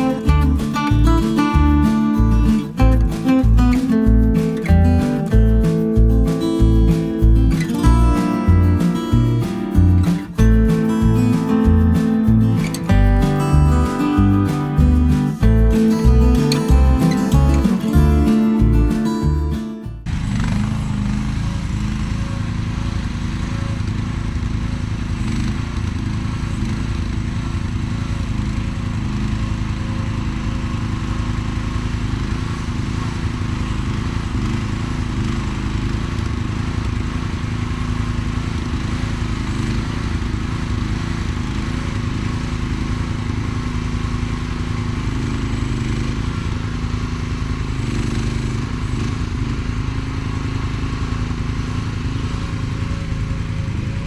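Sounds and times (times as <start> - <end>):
small gas engine running: 0.0 - 54.0.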